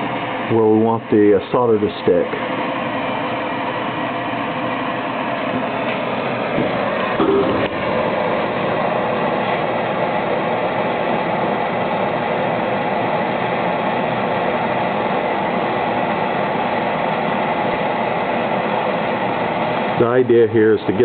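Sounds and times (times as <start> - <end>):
gas torch flame hissing: 0.0 - 21.0.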